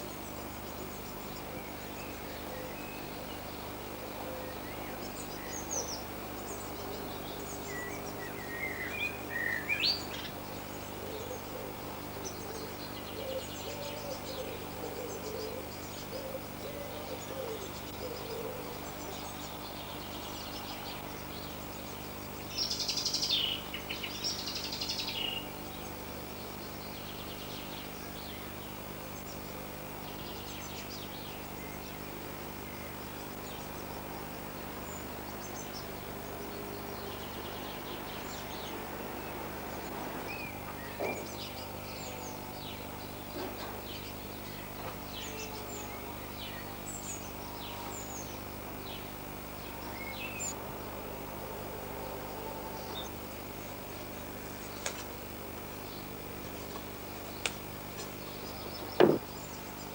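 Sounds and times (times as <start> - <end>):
small birds chirping: 0.0 - 51.0, 52.6 - 59.9
steady low hum: 0.0 - 59.9.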